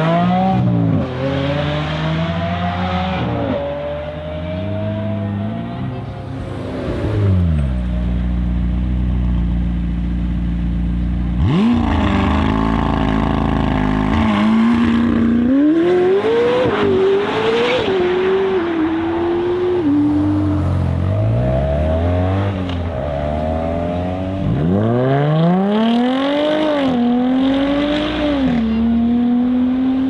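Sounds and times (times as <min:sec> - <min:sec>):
sports car engine revving: 0:00.0 - 0:30.0.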